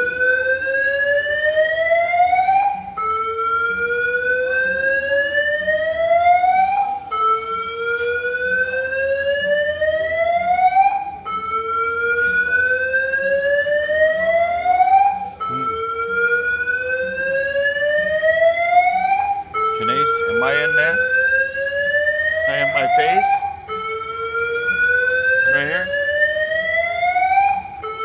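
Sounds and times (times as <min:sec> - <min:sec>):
alarm slow-whoop tone: 0:00.0 - 0:28.0.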